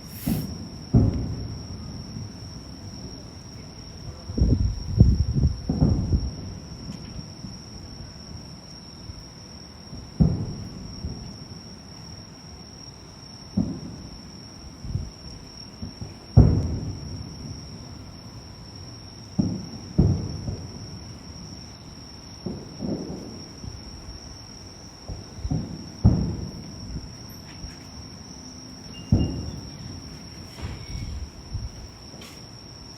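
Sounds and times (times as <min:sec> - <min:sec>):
distant fireworks booms: 0:00.0 - 0:08.4, 0:09.9 - 0:11.6, 0:13.5 - 0:14.2, 0:14.8 - 0:21.6, 0:22.3 - 0:24.2, 0:24.9 - 0:28.0, 0:28.9 - 0:32.9
insects trilling: 0:00.0 - 0:32.9.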